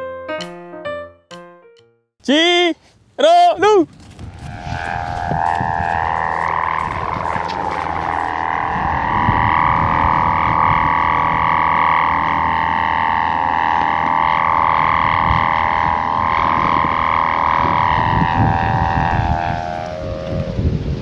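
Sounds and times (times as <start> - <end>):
kite hummer droning: 2.2 - 21.0
wind rumble on microphone: 3.6 - 21.0.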